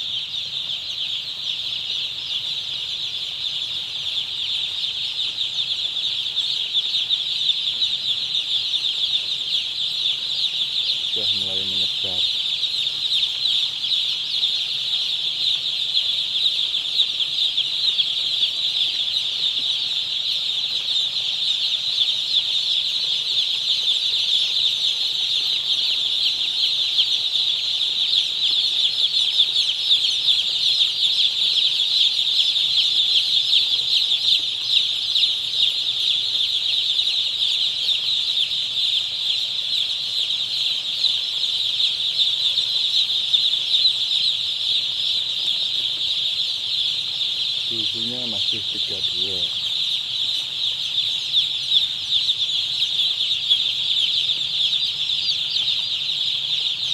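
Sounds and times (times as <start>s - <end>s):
chicks peeping: 0.0s - 56.9s.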